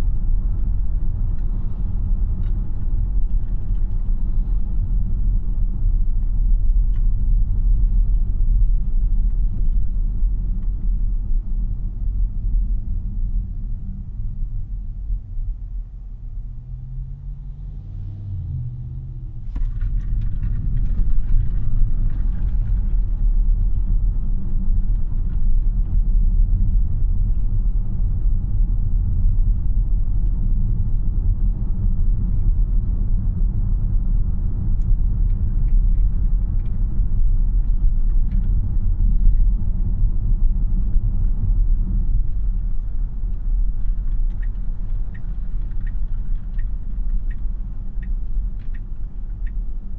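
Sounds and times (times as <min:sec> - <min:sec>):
road and tyre rumble in car: 0:00.0 - 0:49.9.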